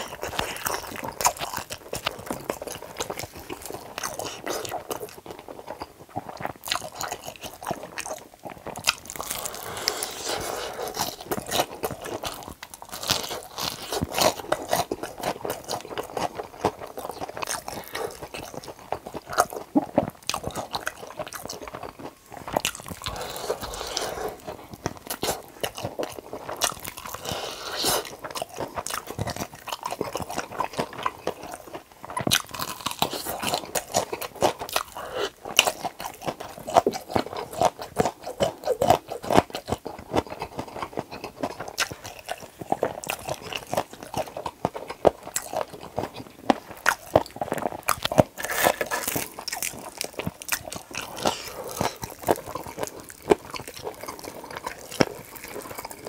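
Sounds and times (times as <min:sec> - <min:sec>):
crunching and chewing fried chicken: 0:00.0 - 0:56.0.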